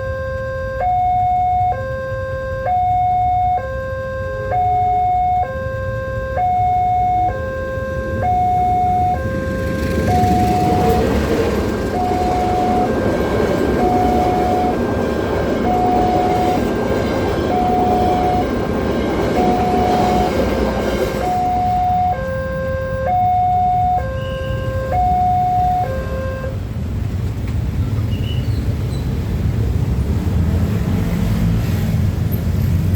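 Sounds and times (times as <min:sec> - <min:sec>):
level crossing alarm beeping: 0:00.0 - 0:26.6
low traffic rumble: 0:00.0 - 0:32.9.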